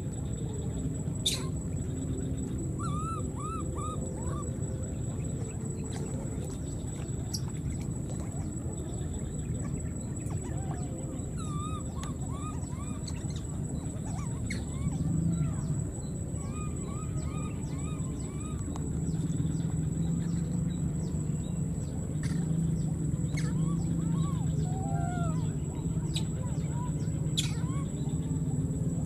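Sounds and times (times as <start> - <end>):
baby monkeys coo calls: 1.2 - 1.8, 2.4 - 21.2, 22.2 - 28.4.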